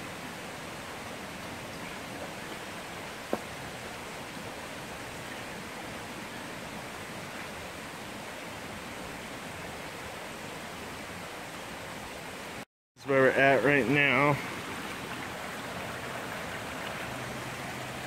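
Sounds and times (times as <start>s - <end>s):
steady rushing noise outdoors: 0.0s - 18.0s.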